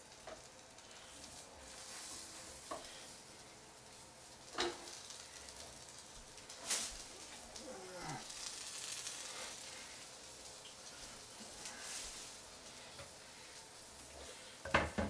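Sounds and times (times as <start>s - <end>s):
tortilla sizzling in pan: 0.0s - 15.0s.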